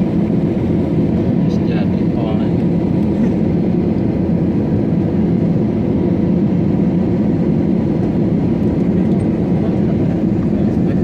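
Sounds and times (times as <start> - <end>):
jet engine cabin drone: 0.0 - 11.0.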